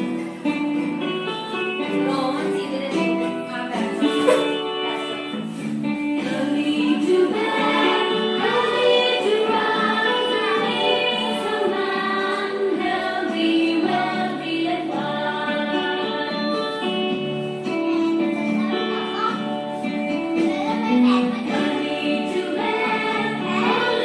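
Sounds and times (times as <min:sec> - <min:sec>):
cheerful instrumental backing: 0:00.0 - 0:24.0
children's song singing: 0:00.0 - 0:24.0.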